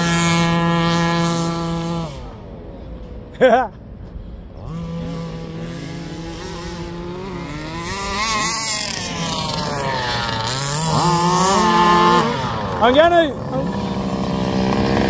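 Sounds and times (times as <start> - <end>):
engine revving: 0.0 - 2.9, 4.5 - 15.0
small two-stroke engines running: 0.0 - 3.3, 4.2 - 15.0.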